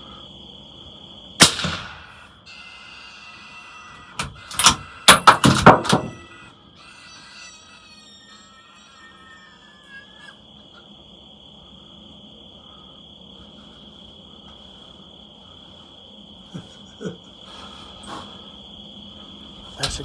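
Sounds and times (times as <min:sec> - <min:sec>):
crickets trilling: 0:00.0 - 0:20.0
high wavering insect call: 0:00.0 - 0:20.0.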